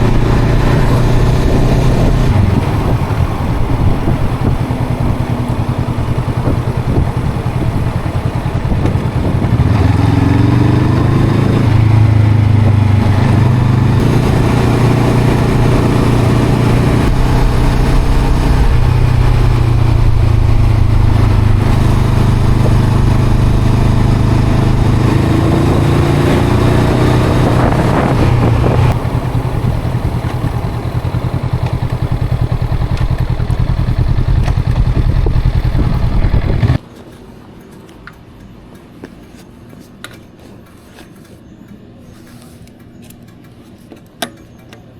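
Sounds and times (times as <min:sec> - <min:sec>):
motorcycle engine revving: 0:00.0 - 0:36.8.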